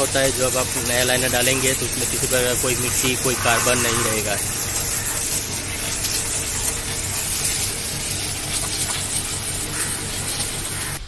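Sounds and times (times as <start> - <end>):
water jet spraying on metal: 0.0 - 11.0.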